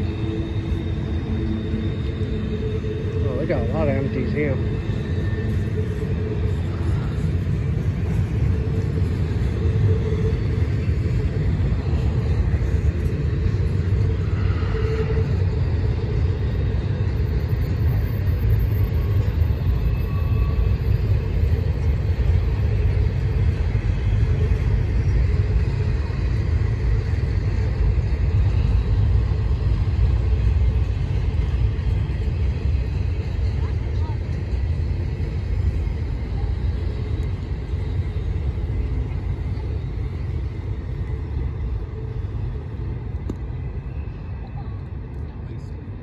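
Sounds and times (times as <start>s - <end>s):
freight train wheels rumbling on rail: 0.0s - 46.0s.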